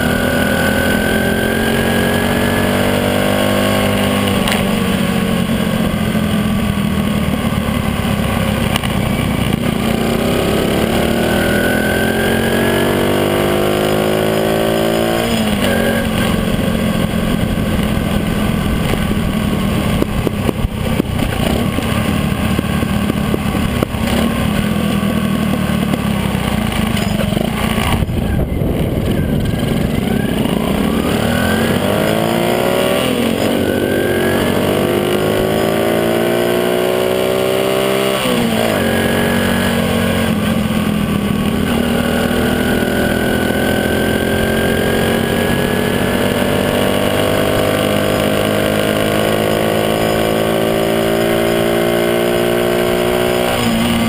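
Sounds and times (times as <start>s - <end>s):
road noise: 0.0s - 54.0s
small motorcycle engine: 0.0s - 54.0s.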